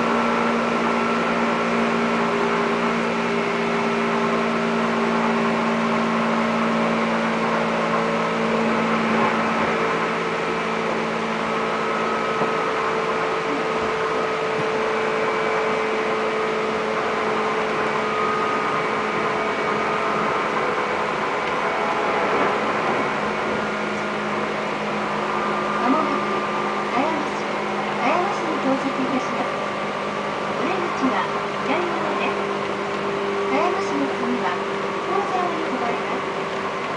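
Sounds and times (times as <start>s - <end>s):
train rumble inside passenger car: 0.0s - 36.9s.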